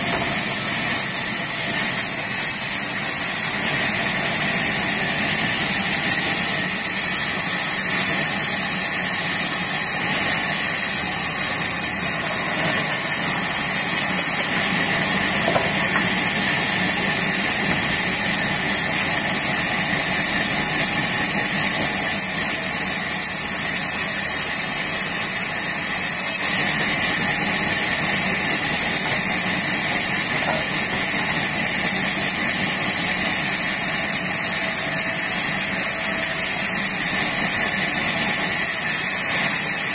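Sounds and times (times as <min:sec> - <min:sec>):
band saw ripping planks: 0:00.0 - 0:39.9.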